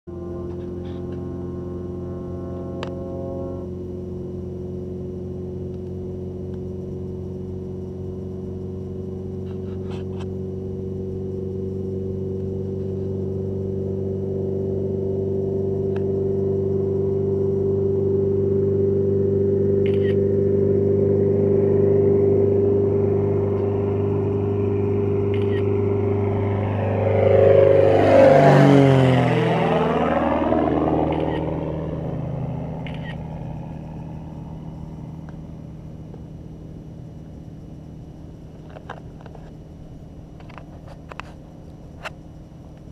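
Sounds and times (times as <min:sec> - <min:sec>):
propeller plane engine droning: 0:00.0 - 0:42.9.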